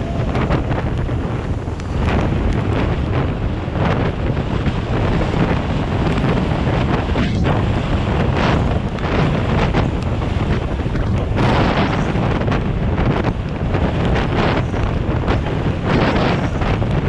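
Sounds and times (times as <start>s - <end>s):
low rumble: 0.0s - 17.0s
wind buffeting microphone: 0.0s - 17.0s.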